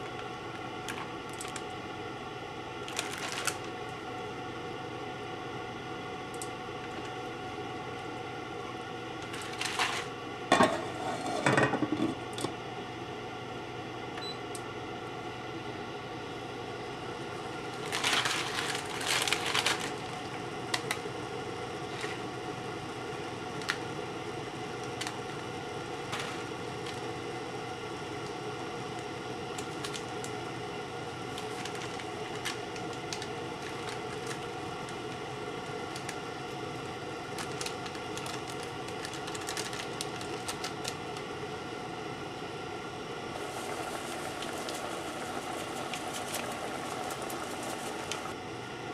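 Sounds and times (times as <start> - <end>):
noodles boiling with bubbling hiss: 0.0 - 14.1, 14.7 - 48.9.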